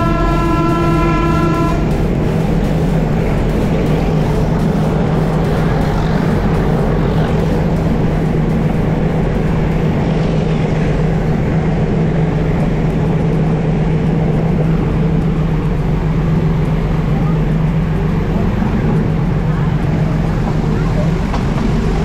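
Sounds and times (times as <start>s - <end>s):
road rumble: 0.0s - 22.0s
vehicle engine hum: 0.0s - 22.0s.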